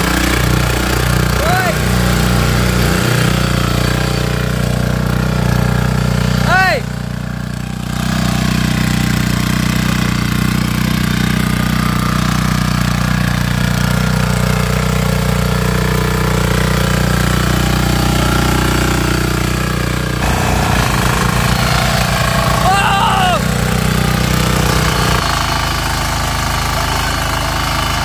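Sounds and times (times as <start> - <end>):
power tiller engine running: 0.0 - 28.0.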